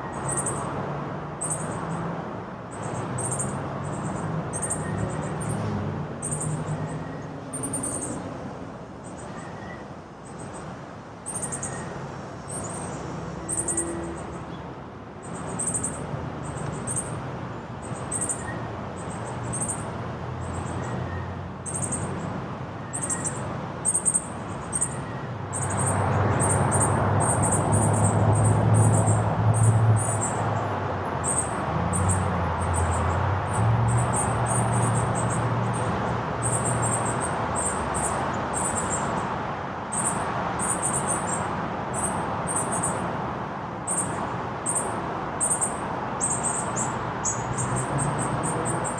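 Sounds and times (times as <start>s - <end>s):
small birds chirping: 0.0s - 0.8s, 1.4s - 2.1s, 2.7s - 8.4s, 9.0s - 43.1s, 43.9s - 48.9s
broad rushing background noise: 0.0s - 48.9s.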